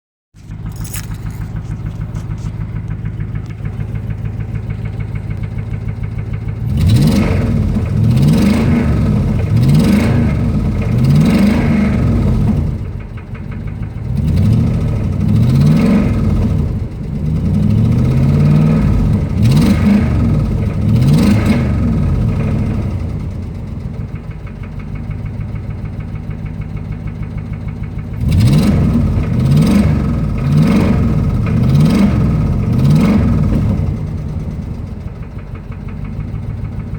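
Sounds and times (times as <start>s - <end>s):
engine idling and revving: 0.3s - 36.9s.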